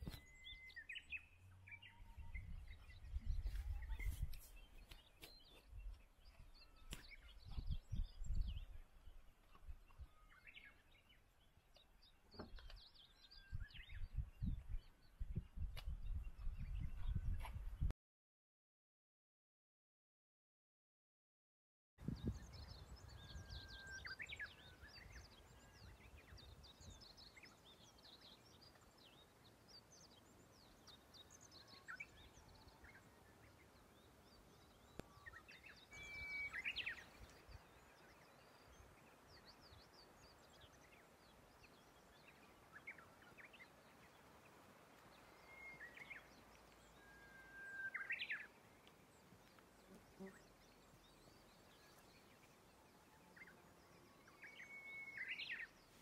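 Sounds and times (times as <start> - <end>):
faint songbirds chirping: 0.0 - 17.9, 22.0 - 56.0.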